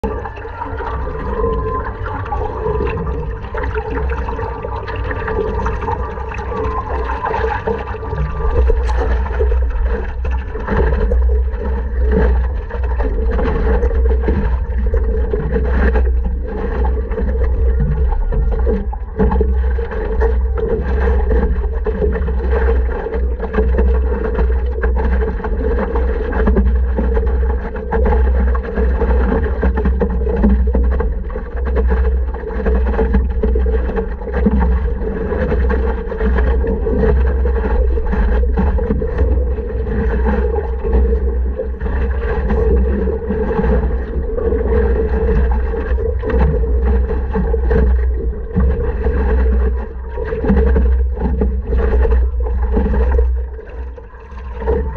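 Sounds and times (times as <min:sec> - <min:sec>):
low rumble: 0:00.0 - 0:54.9
water sloshing against paddleboard: 0:00.0 - 0:54.9.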